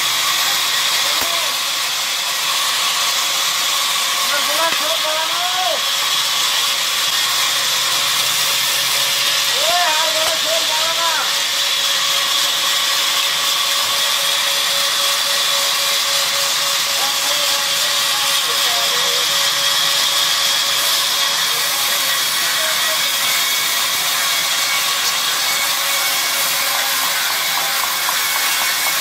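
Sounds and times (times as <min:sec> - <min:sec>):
band saw hiss and whine: 0:00.0 - 0:29.0.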